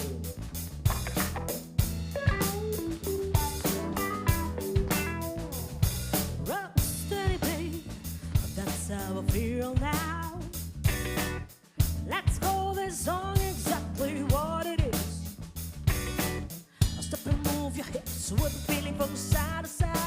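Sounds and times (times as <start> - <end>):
funk band playing: 0.0 - 20.0.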